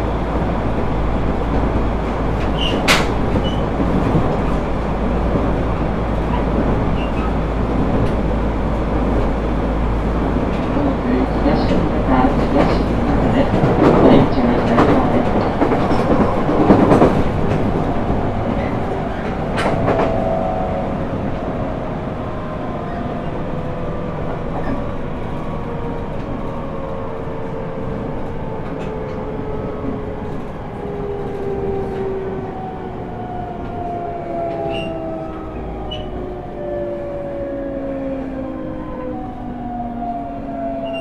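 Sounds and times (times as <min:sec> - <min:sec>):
rail running noise: 0:00.0 - 0:41.0.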